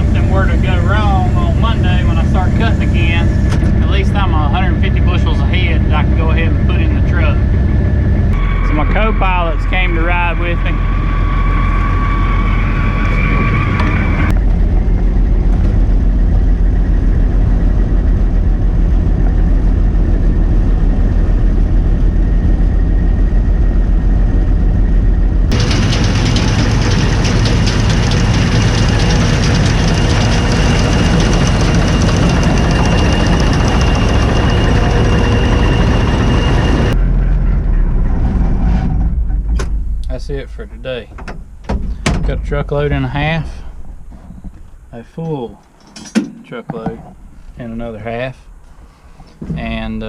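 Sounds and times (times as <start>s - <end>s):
thin high whine: 0.0s - 41.1s
combine harvester engine running: 0.0s - 46.0s.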